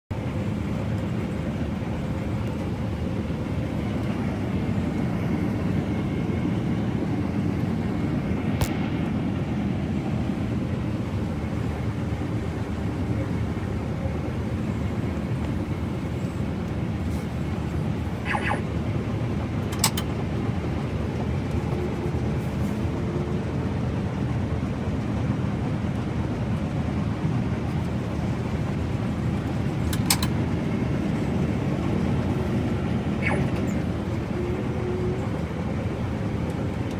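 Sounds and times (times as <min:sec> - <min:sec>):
combine harvester engine drone: 0:00.1 - 0:36.9.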